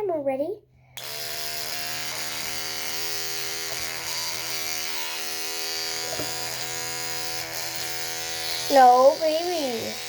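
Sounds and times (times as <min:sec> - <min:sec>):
electric toothbrush buzzing: 0:01.0 - 0:10.0.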